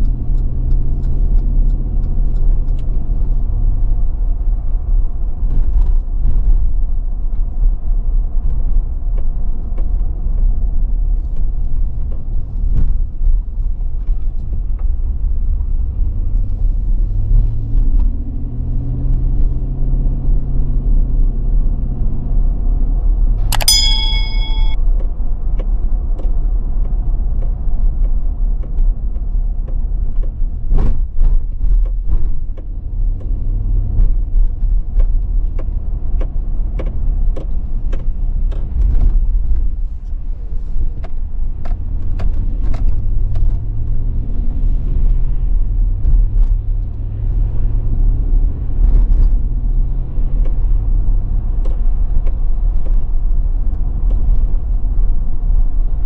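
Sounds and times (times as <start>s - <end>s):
engine and road rumble: 0.0s - 23.3s, 25.1s - 56.0s.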